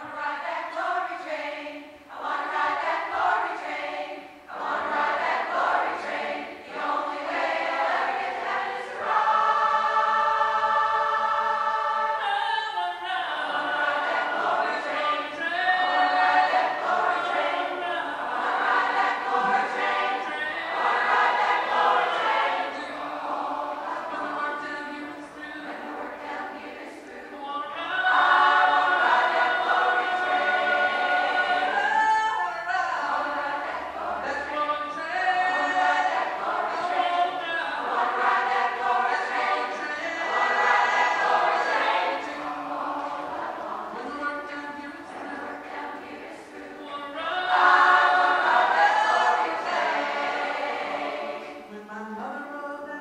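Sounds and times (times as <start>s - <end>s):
large choir singing gospel: 0.0s - 53.0s.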